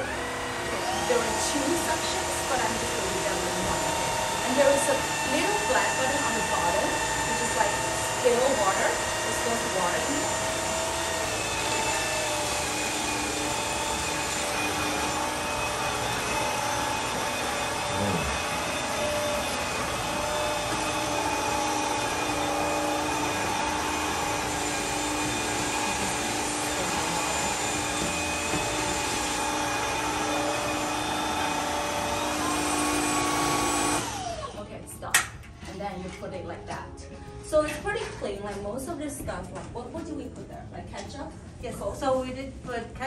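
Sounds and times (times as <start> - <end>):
floor washer vacuum running: 0.0 - 35.4.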